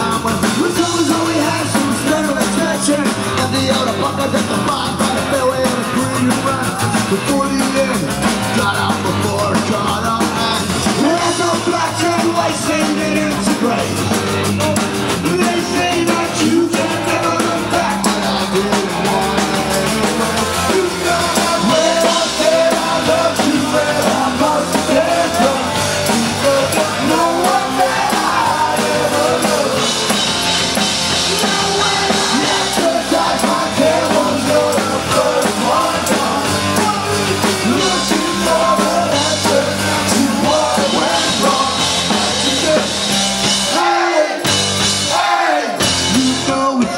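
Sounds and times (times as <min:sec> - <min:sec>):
live punk rock band: 0:00.0 - 0:46.9.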